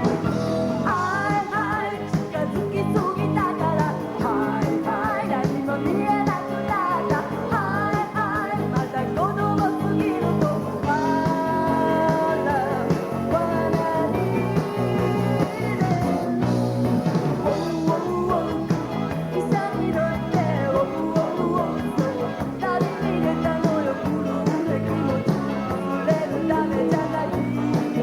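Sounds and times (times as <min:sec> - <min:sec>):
live band playing rock and roll: 0:00.0 - 0:28.0
woman singing: 0:00.8 - 0:16.5, 0:17.4 - 0:28.0.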